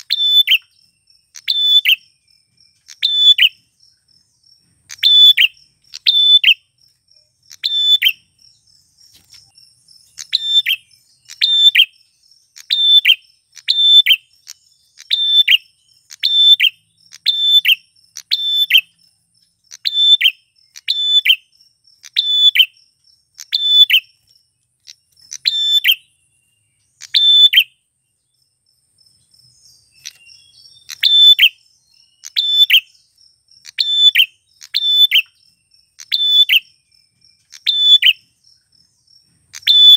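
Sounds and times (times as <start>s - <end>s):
bird chirping sharply: 0.0s - 4.0s, 4.6s - 19.0s, 19.6s - 27.9s, 29.4s - 38.4s.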